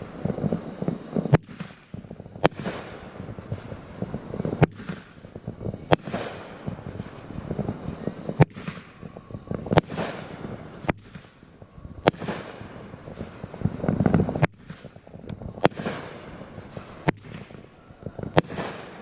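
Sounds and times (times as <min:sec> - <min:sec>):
firework bangs: 0:00.0 - 0:19.0
small firework crackles: 0:00.0 - 0:19.0.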